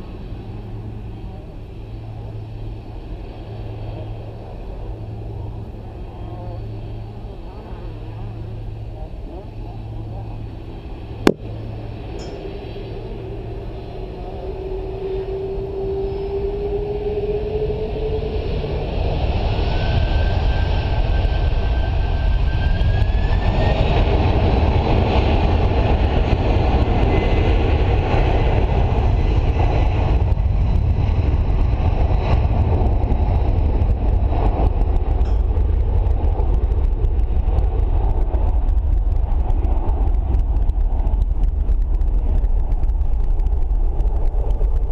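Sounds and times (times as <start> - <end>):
jet engines spooling up: 0.0 - 44.9.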